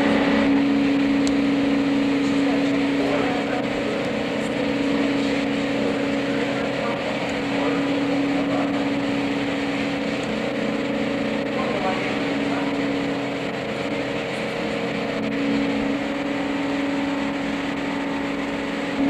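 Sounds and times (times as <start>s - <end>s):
packaging machinery humming: 0.0s - 19.0s.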